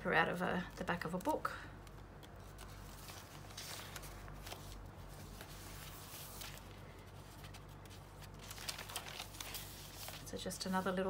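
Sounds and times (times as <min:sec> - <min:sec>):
low steady hum: 0:00.0 - 0:11.0
paper rustling: 0:00.9 - 0:11.0.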